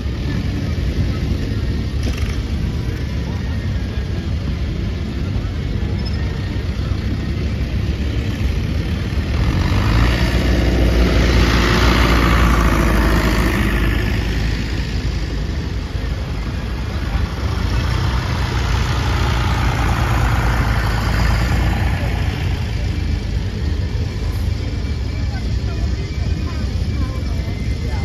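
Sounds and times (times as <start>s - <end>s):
tractor driving by: 0.0s - 28.0s
tractor engines rumbling: 0.0s - 28.0s.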